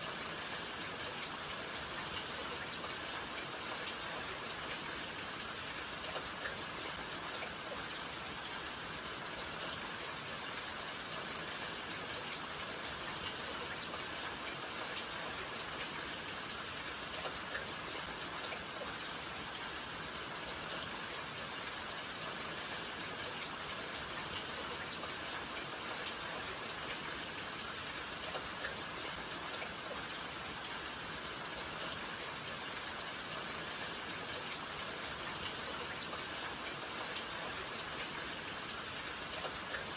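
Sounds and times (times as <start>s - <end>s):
raindrops ticking on surfaces: 0.0s - 39.9s
steady rain hiss: 0.0s - 39.9s.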